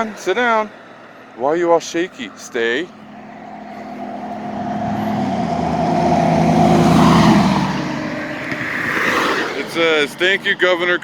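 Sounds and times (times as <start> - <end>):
vehicle driving past: 0.0 - 11.0.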